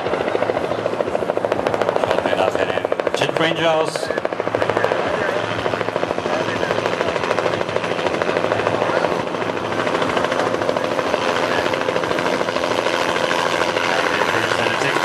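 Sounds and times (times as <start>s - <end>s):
helicopter rotor chop: 0.0s - 15.0s
turbine engine running: 0.0s - 15.0s.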